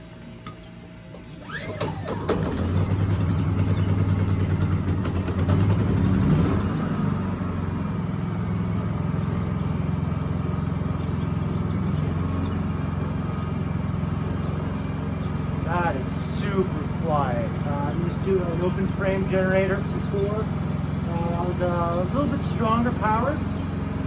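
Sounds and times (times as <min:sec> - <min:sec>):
generator engine running: 0:00.0 - 0:24.0.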